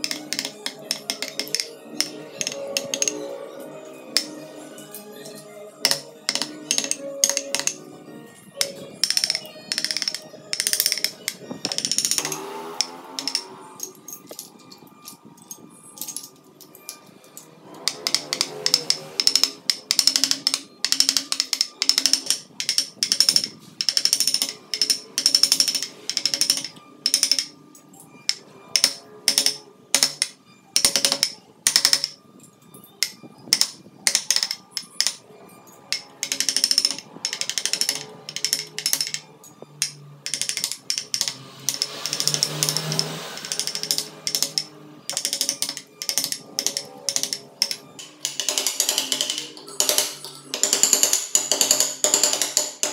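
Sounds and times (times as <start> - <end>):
faint background music: 0.0 - 52.9.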